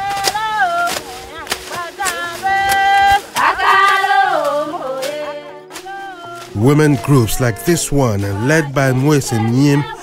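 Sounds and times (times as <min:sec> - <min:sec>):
sustained backing tones: 0:00.0 - 0:10.0
woman singing: 0:00.0 - 0:10.0.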